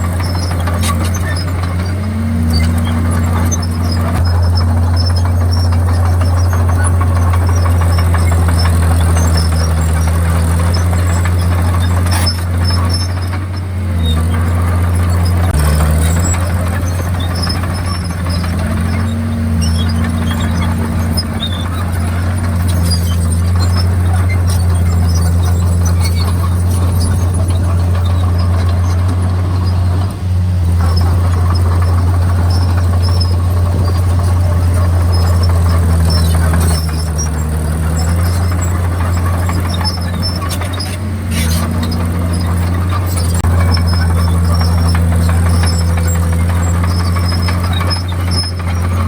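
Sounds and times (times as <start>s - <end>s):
bulldozer diesel engine: 0.0s - 49.0s
steel tracks squeaking and clicking: 0.0s - 49.0s.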